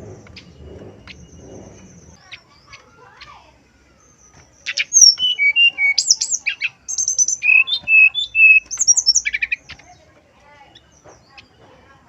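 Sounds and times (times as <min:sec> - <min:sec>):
bird singing whistled notes: 0:00.0 - 0:10.0.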